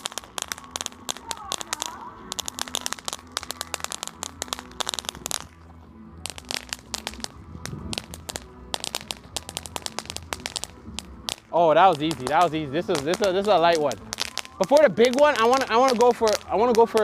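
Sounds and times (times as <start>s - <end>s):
firecrackers popping: 0.0s - 17.0s.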